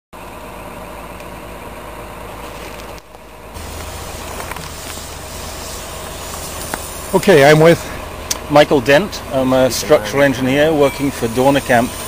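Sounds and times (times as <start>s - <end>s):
diesel engine running: 0.2s - 12.0s
low hum: 0.2s - 12.0s.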